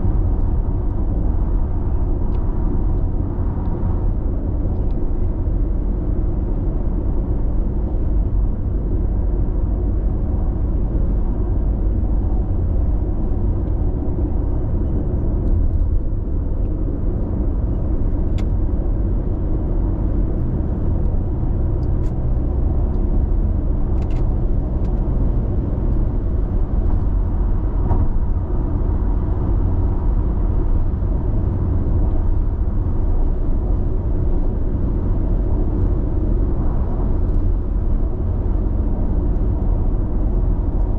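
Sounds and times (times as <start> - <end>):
car cabin road rumble: 0.0 - 40.9.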